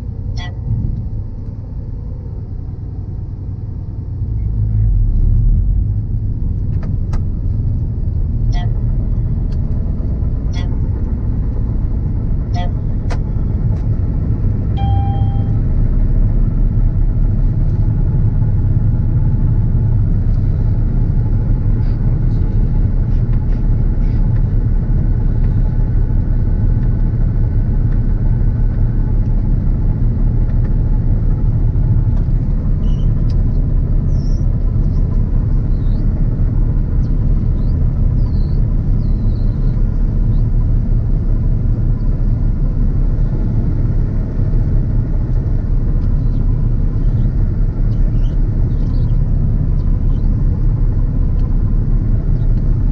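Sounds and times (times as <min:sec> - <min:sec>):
combine harvester rumble: 0:00.0 - 0:52.9.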